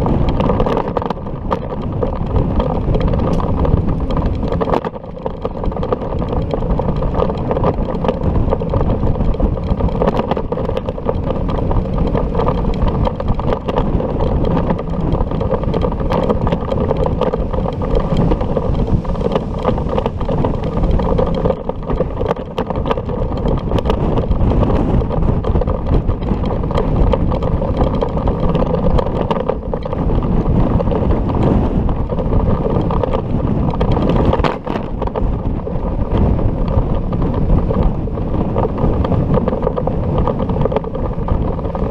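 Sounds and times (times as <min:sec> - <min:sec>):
road and vehicle rumble: 0:00.0 - 0:41.9
wind buffeting microphone: 0:00.0 - 0:41.9.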